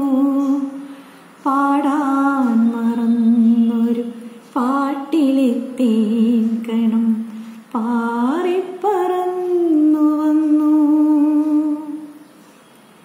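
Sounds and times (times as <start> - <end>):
woman singing unaccompanied: 0.0 - 12.3.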